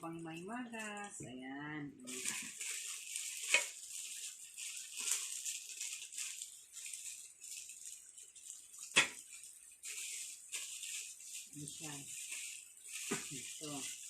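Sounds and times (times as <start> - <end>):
baking set rustling and rattling: 2.1 - 14.0.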